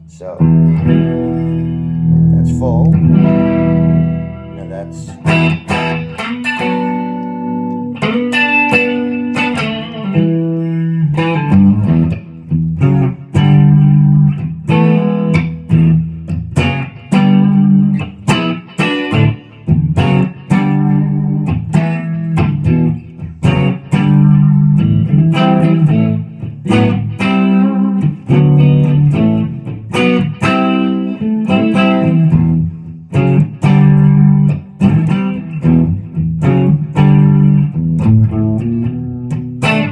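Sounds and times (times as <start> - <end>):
electric guitar riffs and chords: 0.0 - 39.9.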